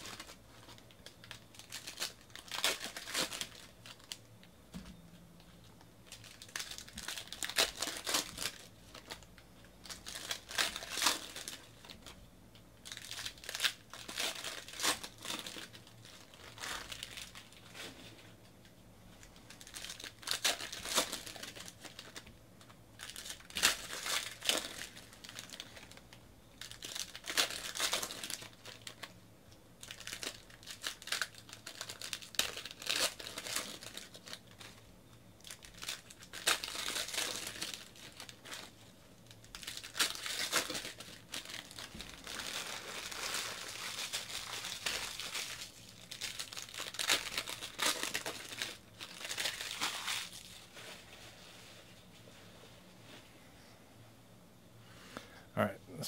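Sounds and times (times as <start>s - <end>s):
foil packs crinkling and tearing: 0.0s - 4.3s, 6.0s - 12.2s, 12.8s - 18.0s, 19.3s - 22.3s, 23.0s - 29.2s, 29.8s - 50.8s.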